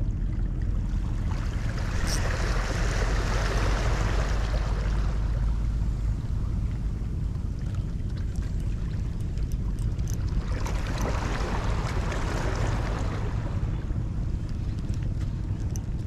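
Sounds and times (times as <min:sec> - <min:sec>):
sea water rushing: 0:00.0 - 0:16.0.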